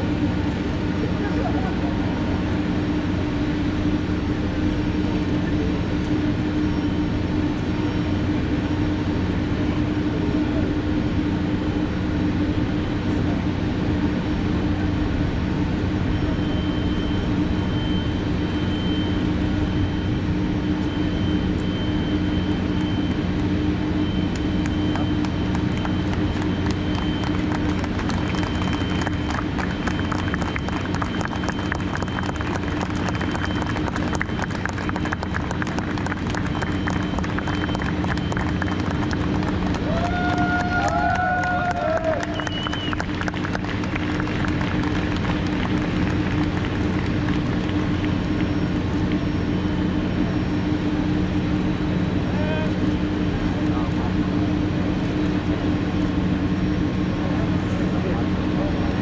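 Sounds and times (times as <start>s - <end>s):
low machine hum: 0.0s - 59.0s
thin high whine: 0.0s - 59.0s.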